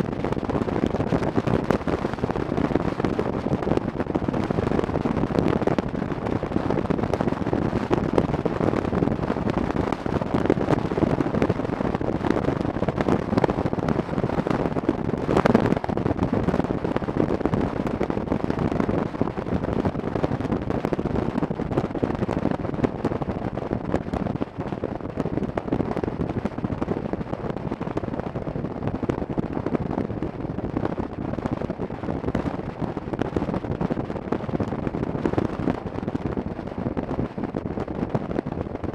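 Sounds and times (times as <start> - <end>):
motorcycle road and engine noise: 0.0 - 38.9
wind rushing on microphone: 0.0 - 38.9.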